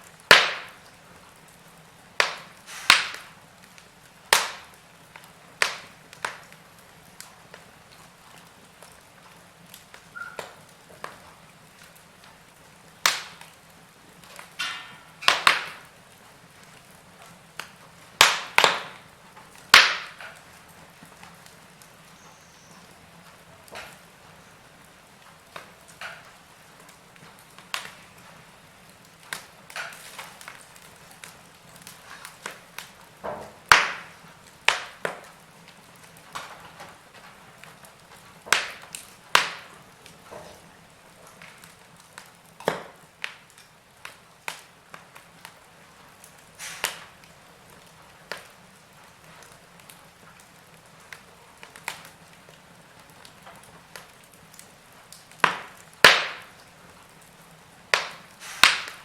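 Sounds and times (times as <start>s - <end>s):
faint steady hiss: 0.0s - 59.0s
wood fire crackling: 0.0s - 59.0s.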